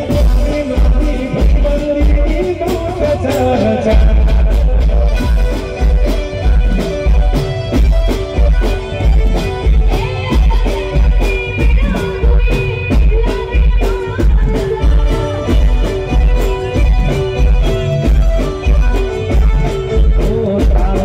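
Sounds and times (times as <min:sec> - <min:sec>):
drums playing dance beat: 0:00.0 - 0:21.0
keyboard melody: 0:00.0 - 0:21.0.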